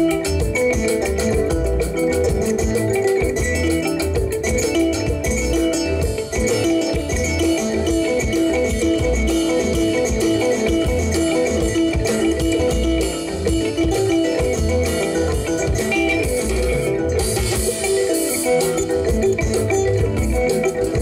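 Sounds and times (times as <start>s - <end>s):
bass and drums: 0.0s - 21.0s
electric guitars: 0.0s - 21.0s.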